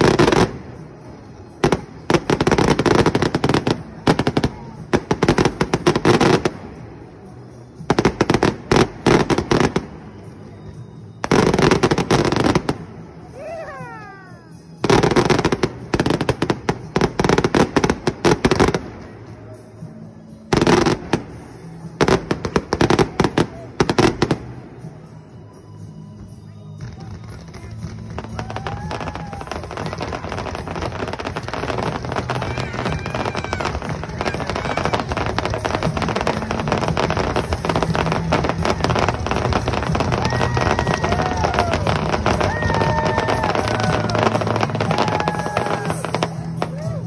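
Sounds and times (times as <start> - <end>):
fireworks popping and crackling: 0.0 - 47.0.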